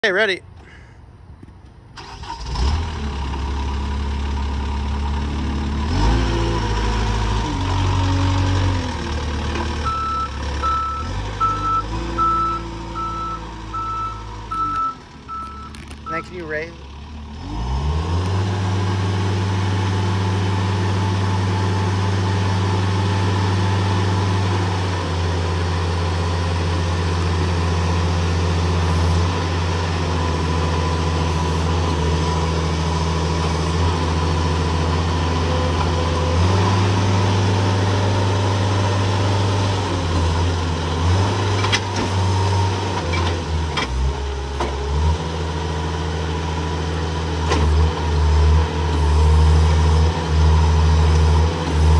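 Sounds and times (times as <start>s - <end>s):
forklift engine running: 1.6s - 51.9s.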